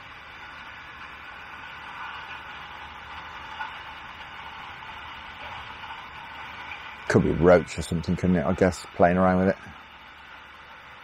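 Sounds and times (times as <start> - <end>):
outdoor ambient hiss: 0.0 - 11.0.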